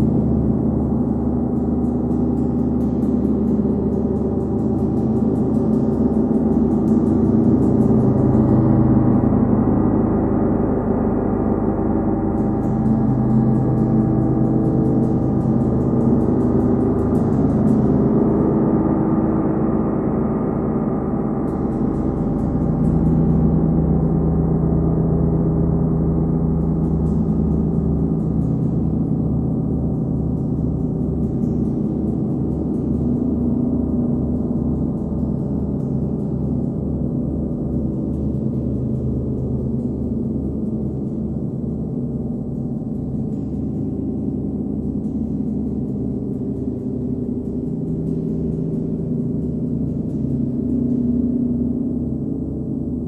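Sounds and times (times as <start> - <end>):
throbbing pulse: 0.0 - 53.0.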